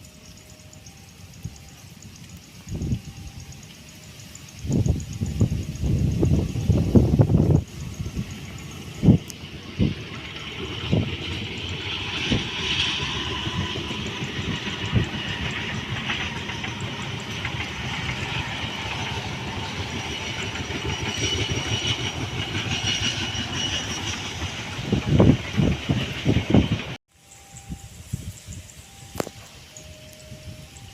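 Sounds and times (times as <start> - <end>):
train wheels rumbling on rail: 0.0 - 30.9
high wheel squeal: 2.7 - 30.9.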